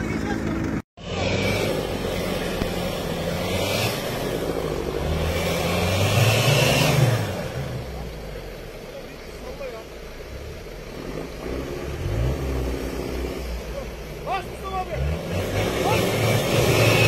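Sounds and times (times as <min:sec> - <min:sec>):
truck engine revving: 0:00.0 - 0:08.6, 0:10.0 - 0:17.0
tyres churning snow: 0:00.0 - 0:17.0.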